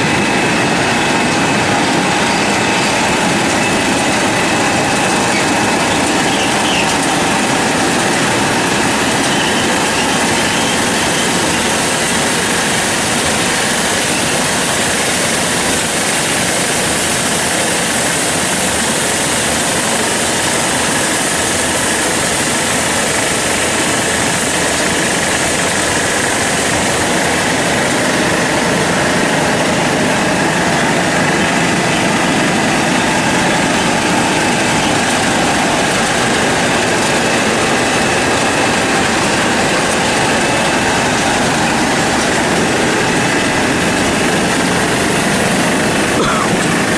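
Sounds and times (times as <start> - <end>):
machine motor and blower drone: 0.0 - 46.9.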